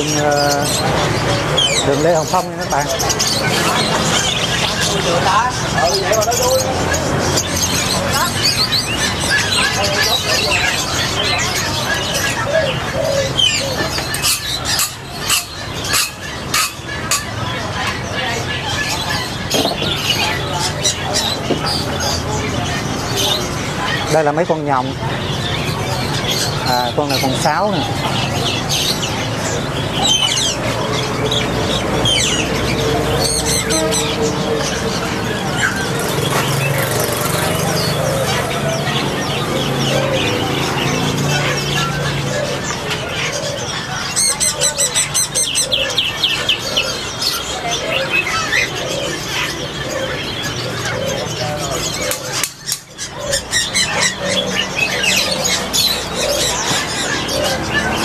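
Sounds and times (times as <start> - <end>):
songbirds chirping: 0.0 - 58.0
street traffic hum: 0.0 - 58.0.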